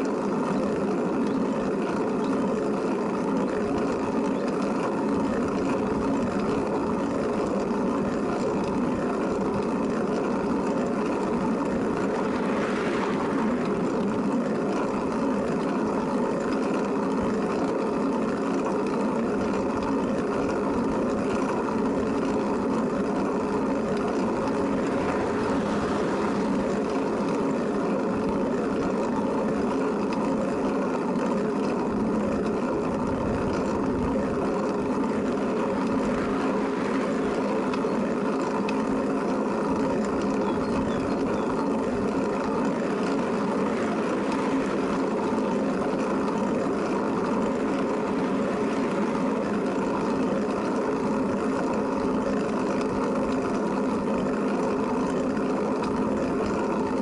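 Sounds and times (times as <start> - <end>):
moving vehicle running hum: 0.0 - 57.0.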